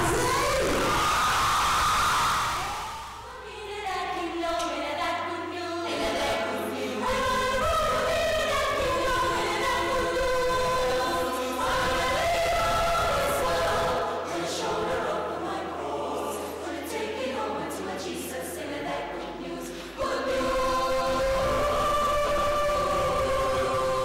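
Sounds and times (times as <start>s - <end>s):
choir singing a cappella: 0.0s - 24.0s.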